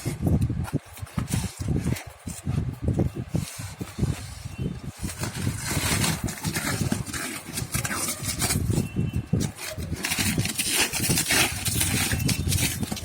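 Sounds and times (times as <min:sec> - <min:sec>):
cardboard and plastic rustling: 0:00.0 - 0:13.0.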